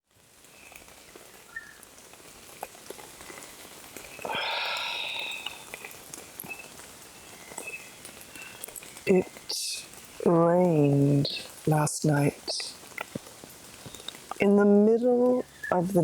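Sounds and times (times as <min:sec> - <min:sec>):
rain pattering: 0:00.0 - 0:16.0
raindrops tapping sharply: 0:00.1 - 0:14.5.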